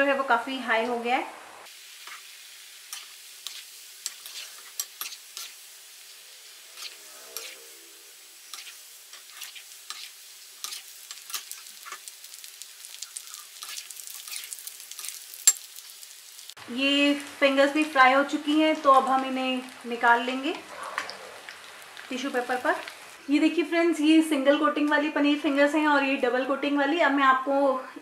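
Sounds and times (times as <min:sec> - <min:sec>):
food deep-frying in hot oil: 0:00.2 - 0:26.1.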